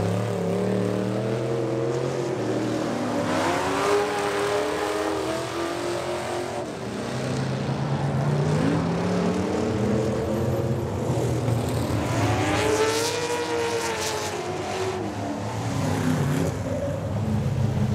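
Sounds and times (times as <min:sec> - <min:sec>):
race truck engines passing: 0:00.0 - 0:17.9.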